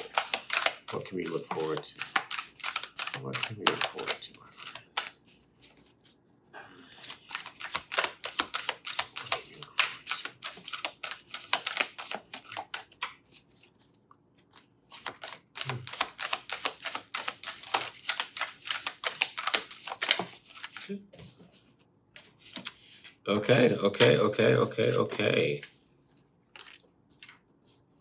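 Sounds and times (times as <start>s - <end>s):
cards being shuffled by hand: 0.0s - 6.2s, 7.0s - 28.0s.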